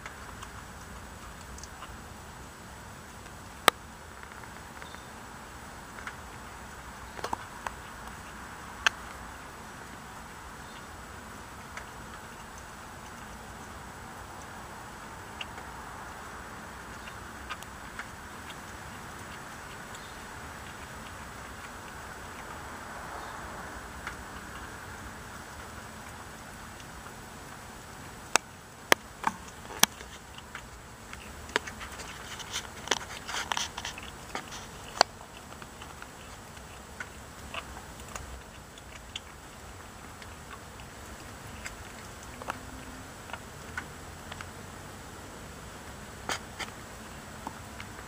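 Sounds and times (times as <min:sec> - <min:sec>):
kitten chewing raw fish: 0:00.0 - 0:48.0.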